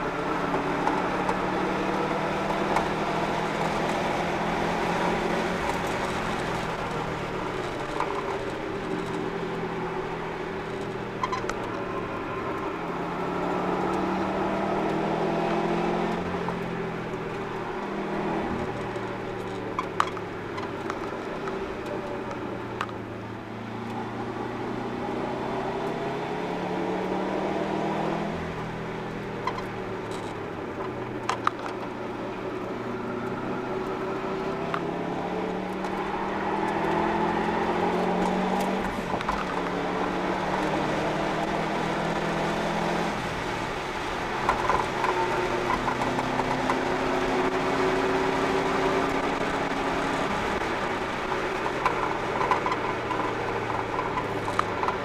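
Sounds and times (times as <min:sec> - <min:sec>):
car engine revving: 0:00.0 - 0:55.0
road and tyre noise: 0:00.0 - 0:55.0.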